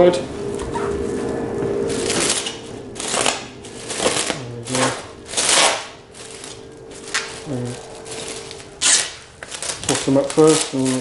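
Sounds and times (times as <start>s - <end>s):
plastic film crinkling: 1.9s - 11.0s.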